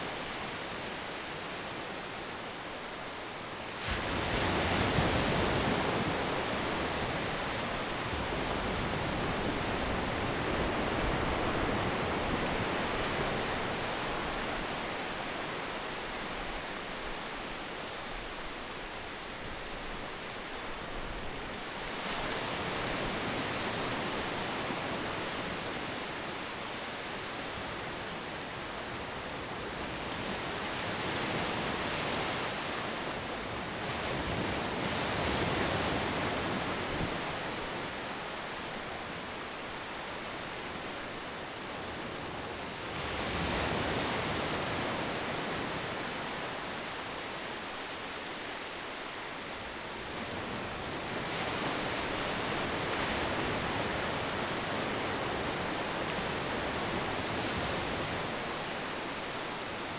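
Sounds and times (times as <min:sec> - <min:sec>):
sea surf washing on beach: 0:00.0 - 0:59.9.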